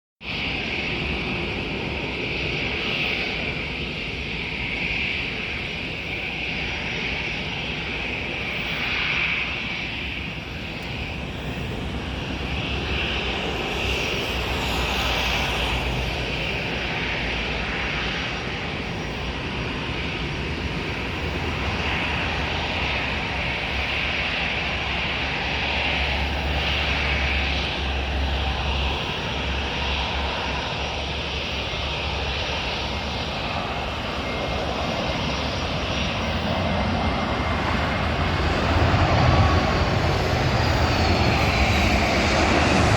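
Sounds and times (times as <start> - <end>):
wind rumble on microphone: 0.2 - 42.9
jet engines running: 0.3 - 42.9.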